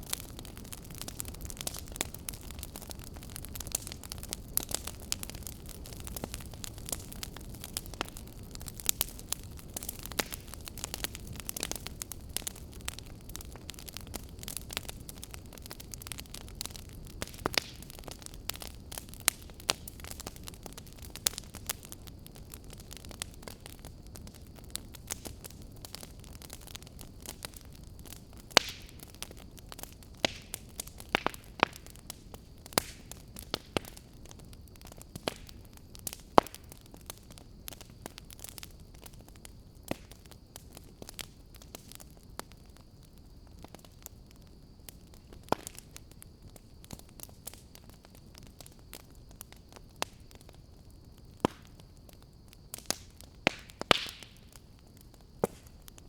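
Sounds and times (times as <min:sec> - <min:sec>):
fire crackling and popping: 0:00.0 - 0:56.0
fire low rumble: 0:00.0 - 0:56.0.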